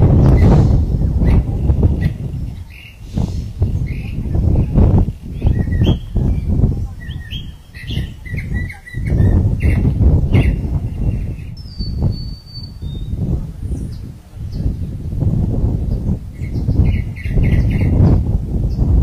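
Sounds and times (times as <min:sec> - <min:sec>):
small birds chirping: 0:00.0 - 0:15.0, 0:15.8 - 0:19.0
loud uneven low rumble: 0:00.0 - 0:19.0.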